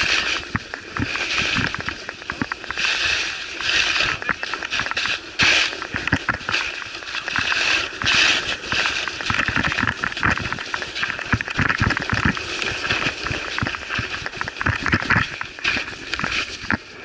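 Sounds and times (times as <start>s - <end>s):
skis scraping on snow: 0.0s - 17.0s.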